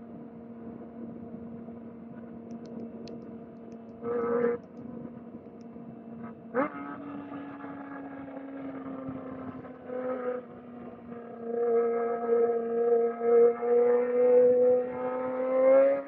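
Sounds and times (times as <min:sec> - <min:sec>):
motorcycle engine at high revs: 0:02.5 - 0:16.0.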